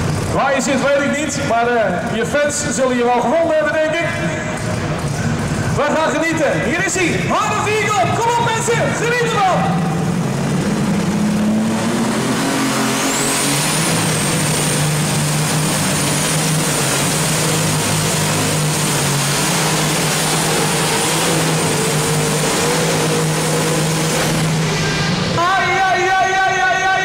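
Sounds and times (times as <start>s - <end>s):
diesel tractor engine under load: 0.0s - 27.0s
high engine whine: 0.0s - 27.0s.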